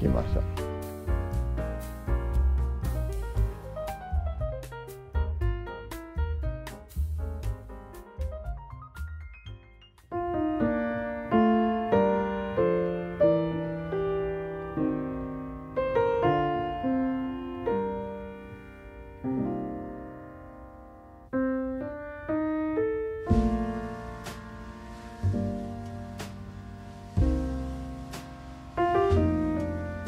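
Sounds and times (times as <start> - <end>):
piano melody: 0.0 - 30.0.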